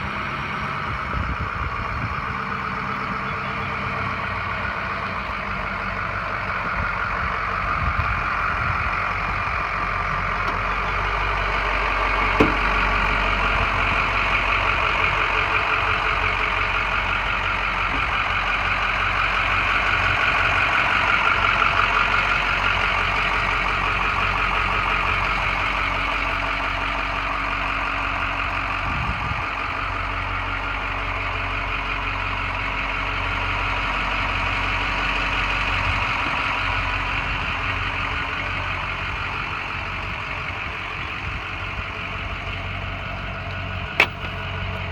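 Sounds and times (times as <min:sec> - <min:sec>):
truck engine running: 0:00.0 - 0:44.9.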